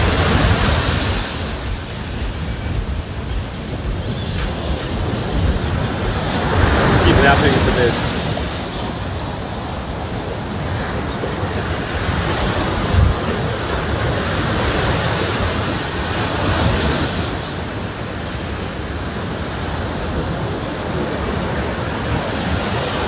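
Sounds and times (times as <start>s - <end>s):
ocean waves breaking on sand: 0.0s - 23.0s
wind on microphone: 0.0s - 23.0s.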